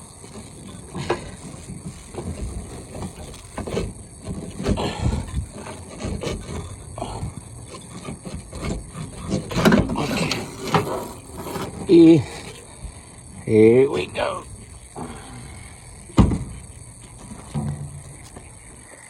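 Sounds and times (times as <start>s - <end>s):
tools and metal parts clattering: 0.2s - 12.7s, 15.9s - 18.8s.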